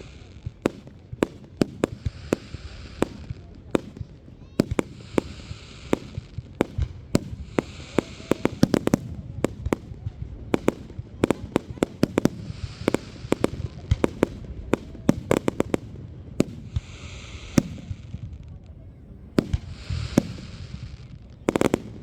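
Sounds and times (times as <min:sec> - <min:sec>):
fireworks bangs and pops: 0:00.0 - 0:22.0
fireworks hissing crackle: 0:00.0 - 0:22.0.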